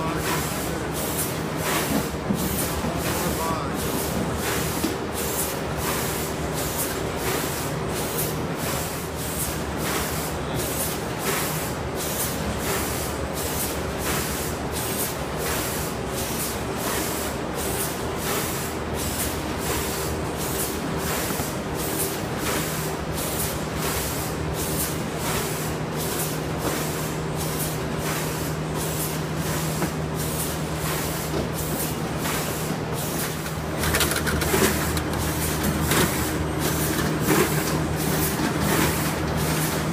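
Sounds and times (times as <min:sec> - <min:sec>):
packing machine hum: 0:00.0 - 0:39.9.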